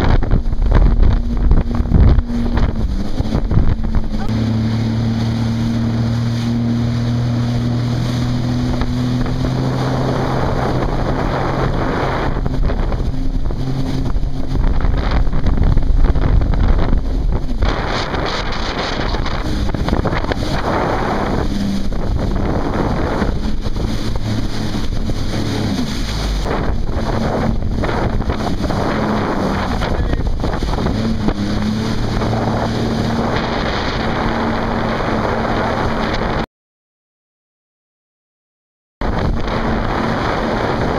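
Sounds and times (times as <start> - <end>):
rushing water spray: 0.0 - 36.1
jet ski engine: 0.0 - 36.4, 39.0 - 40.9
wind buffeting microphone: 0.0 - 36.4, 39.0 - 40.9.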